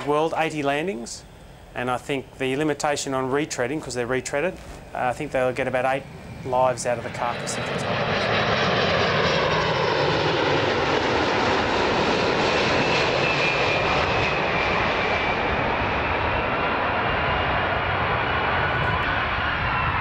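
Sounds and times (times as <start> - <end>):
jet airliner landing: 0.0 - 20.0.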